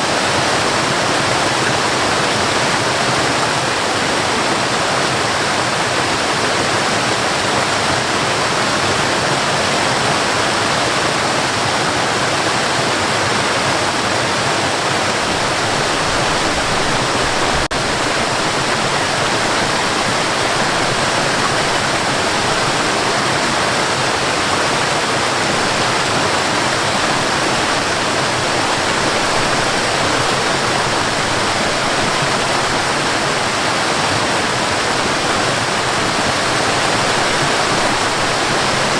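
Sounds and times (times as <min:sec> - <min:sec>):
rushing falling water: 0:00.0 - 0:38.9.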